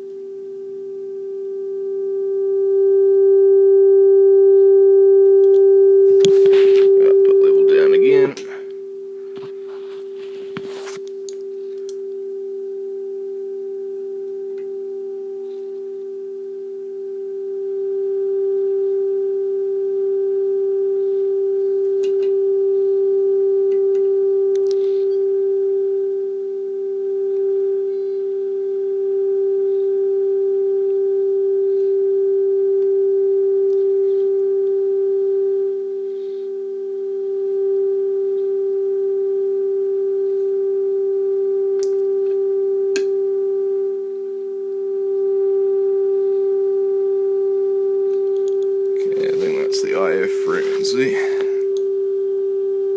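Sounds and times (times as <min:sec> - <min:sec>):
steady test tone from loudspeaker: 0:00.0 - 0:52.9.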